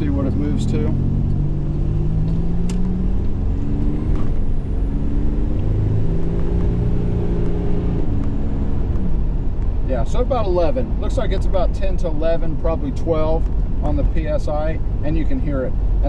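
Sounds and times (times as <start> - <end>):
car engine accelerating: 0.0 - 15.1.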